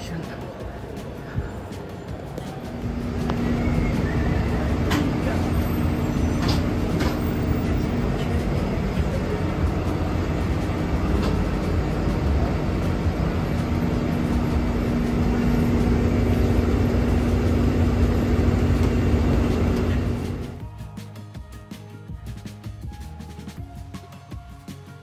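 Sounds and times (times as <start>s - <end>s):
bus engine and road rumble: 0.0s - 20.6s.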